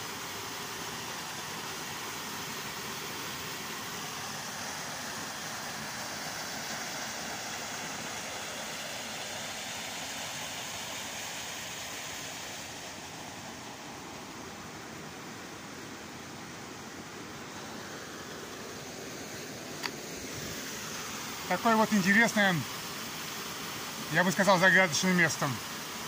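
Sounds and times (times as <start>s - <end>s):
small waterfall rushing into pool: 0.0s - 26.0s.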